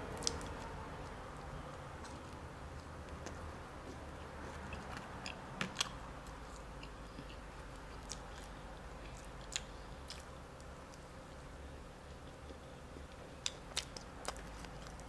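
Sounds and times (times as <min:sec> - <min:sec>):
quiet chewing: 0:00.2 - 0:15.0.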